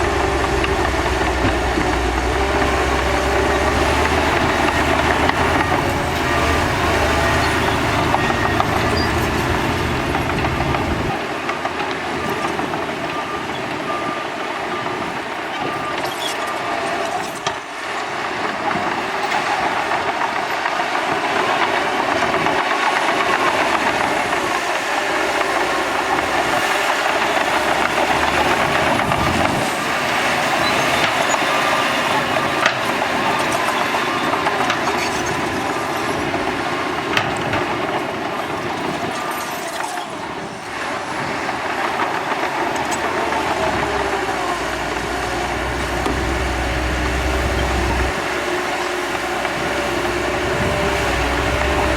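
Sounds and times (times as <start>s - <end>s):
diesel machinery clatter: 0.0s - 51.9s.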